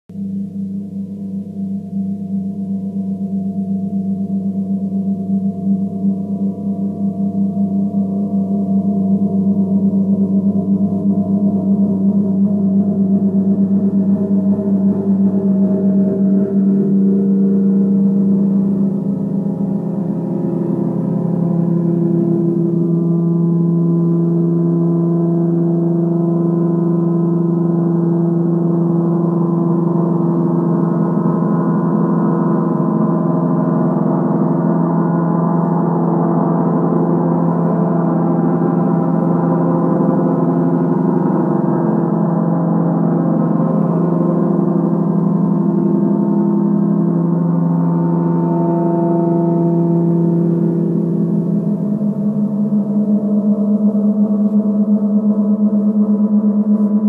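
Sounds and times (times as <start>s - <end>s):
reversed gong: 0.2s - 57.0s.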